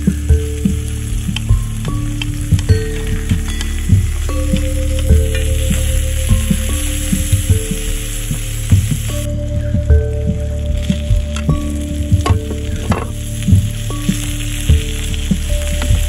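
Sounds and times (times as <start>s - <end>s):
food sizzling in a pan: 0.0s - 9.5s, 11.6s - 16.0s
soft background music: 0.0s - 16.0s.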